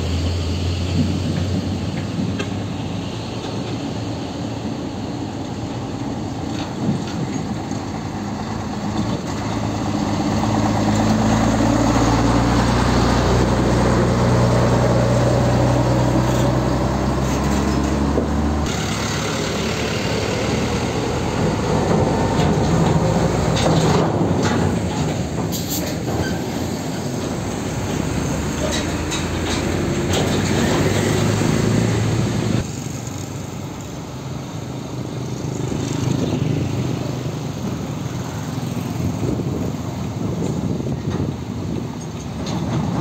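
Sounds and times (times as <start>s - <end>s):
truck diesel engine drone: 0.0s - 43.0s
truck rolling past: 0.0s - 43.0s.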